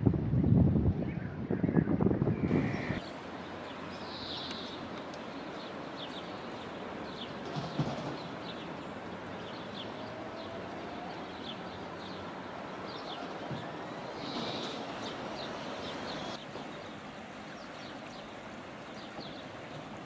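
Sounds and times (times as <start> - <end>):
river water rushing over rapids: 2.6 - 20.0.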